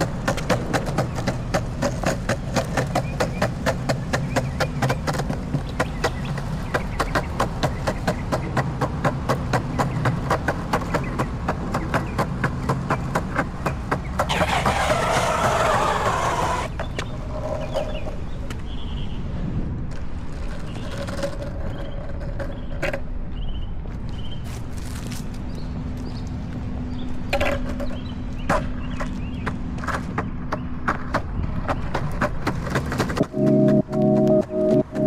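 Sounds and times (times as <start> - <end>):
longboard wheels clacking on concrete: 0.0 - 18.6, 19.8 - 23.5, 27.3 - 33.9.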